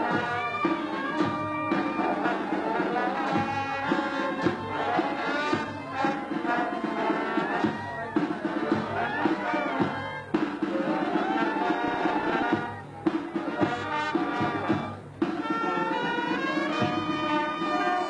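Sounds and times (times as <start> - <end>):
band playing wind or brass melody: 0.0 - 18.0
steady drum beat: 0.0 - 18.0.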